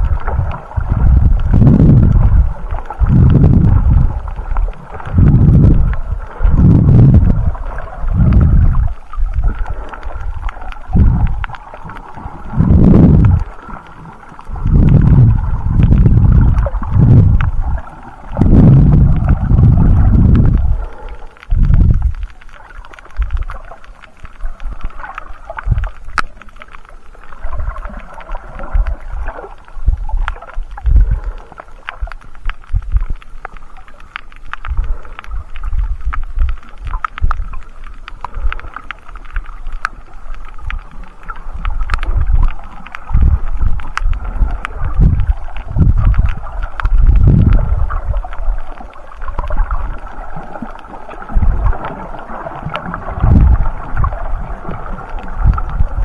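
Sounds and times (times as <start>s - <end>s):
underwater rumbles and thumps: 0.0s - 56.0s.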